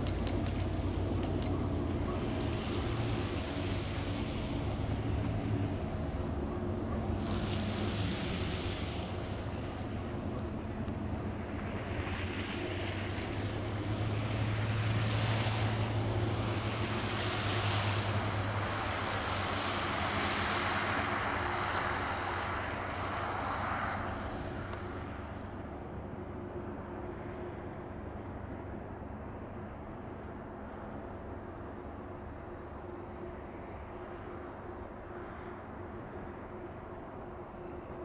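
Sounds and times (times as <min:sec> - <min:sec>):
locomotive engine drone: 0:00.0 - 0:38.0
train rolling past: 0:00.0 - 0:38.0.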